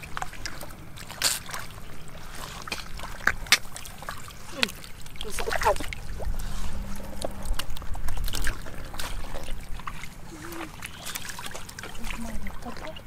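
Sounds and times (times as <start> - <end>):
muddy water splashing: 0.0 - 13.0
water trickling: 0.0 - 13.0.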